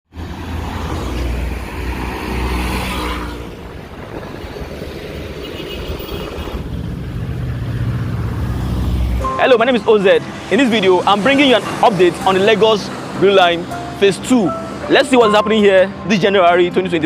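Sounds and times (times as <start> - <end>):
road traffic rumble: 0.1 - 17.0.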